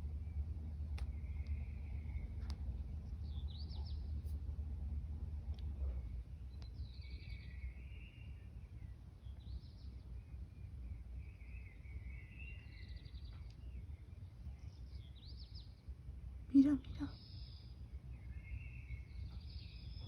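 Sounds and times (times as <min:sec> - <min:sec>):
low outdoor rumble: 0:00.0 - 0:20.0
small birds chirping: 0:00.0 - 0:20.0.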